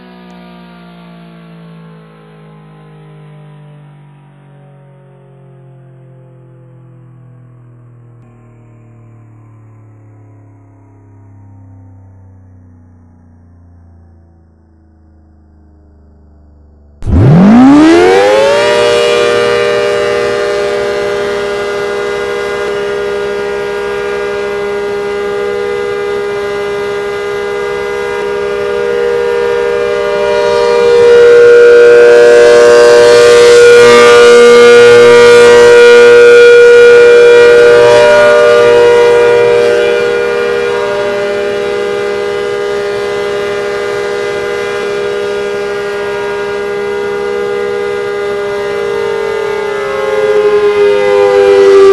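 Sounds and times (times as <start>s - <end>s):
civil defense siren: 0.0s - 51.9s.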